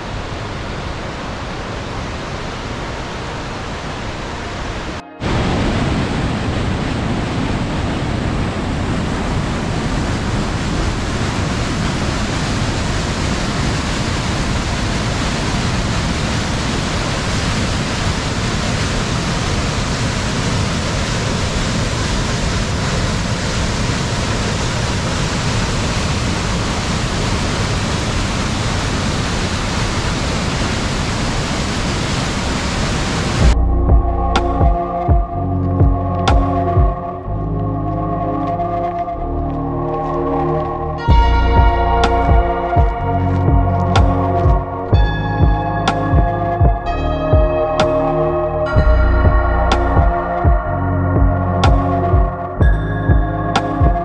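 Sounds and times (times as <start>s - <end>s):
rushing white water: 0.0s - 54.0s.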